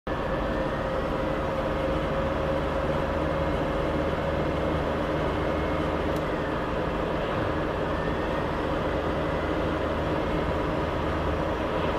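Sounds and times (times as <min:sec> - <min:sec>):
aircraft engine whistling: 0:00.1 - 0:11.9
constant engine rumble: 0:00.1 - 0:11.9.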